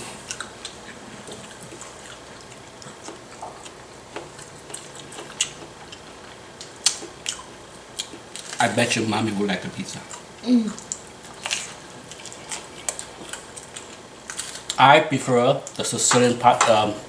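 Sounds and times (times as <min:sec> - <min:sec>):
people chewing food: 0:00.0 - 0:16.9.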